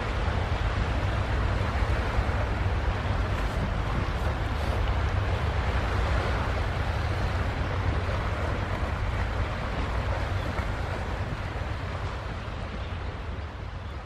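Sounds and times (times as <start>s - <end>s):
waves: 0.0s - 14.0s
wind: 0.0s - 14.0s.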